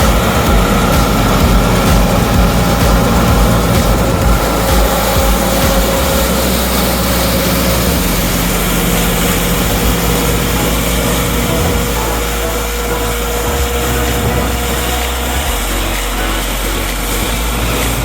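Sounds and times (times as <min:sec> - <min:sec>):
combine harvester engine droning: 0:00.0 - 0:18.0.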